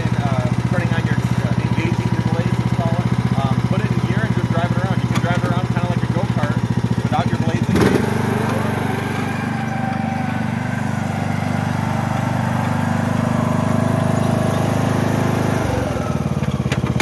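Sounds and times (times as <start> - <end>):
riding lawn mower engine: 0.0 - 17.0.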